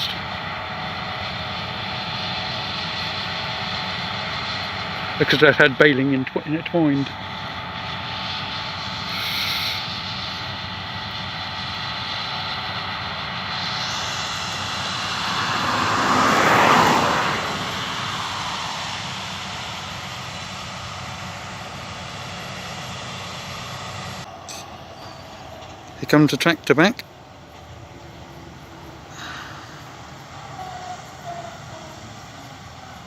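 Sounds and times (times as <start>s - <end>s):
large machine engine passing by: 0.0s - 33.0s
running machinery background: 0.0s - 33.0s.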